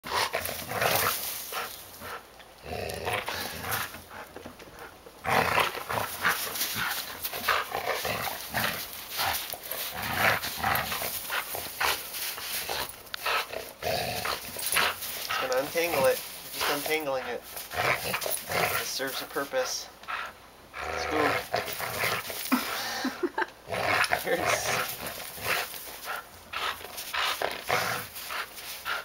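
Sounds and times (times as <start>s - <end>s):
dog growling noises: 0.0s - 29.0s
crunching snow and rope: 0.1s - 19.8s, 21.0s - 23.0s, 23.7s - 29.0s.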